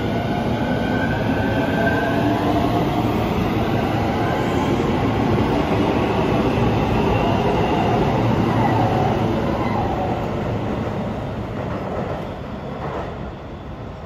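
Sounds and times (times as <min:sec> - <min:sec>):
electric train running past: 0:00.0 - 0:14.0.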